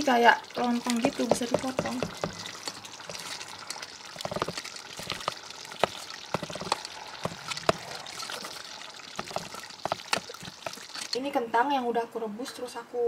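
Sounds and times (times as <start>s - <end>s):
spatula squishing through polenta: 0.0s - 11.4s
spatula tapping pot: 0.6s - 11.1s.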